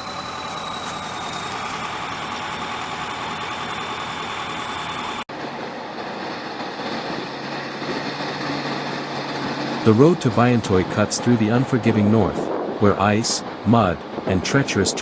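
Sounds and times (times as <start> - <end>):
low vehicle engine hum: 0.0 - 14.5
heavy vehicle engine running: 0.0 - 14.8.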